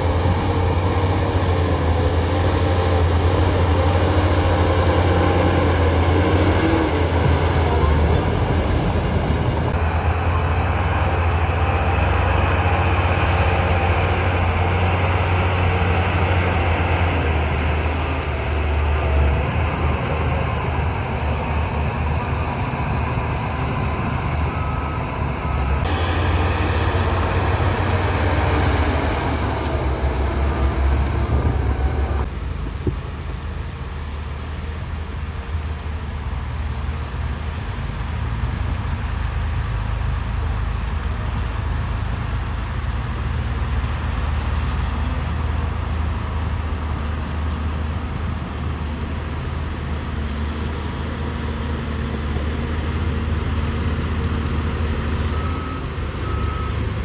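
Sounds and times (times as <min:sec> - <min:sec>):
diesel engines humming: 0:00.0 - 0:57.0.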